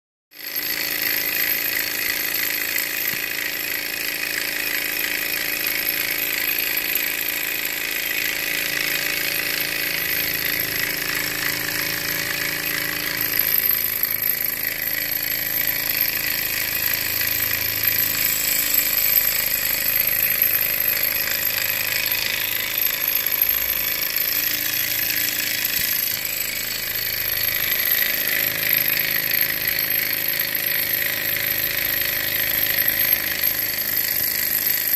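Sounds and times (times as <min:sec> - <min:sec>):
small engine mechanical clatter: 0:00.5 - 0:34.9.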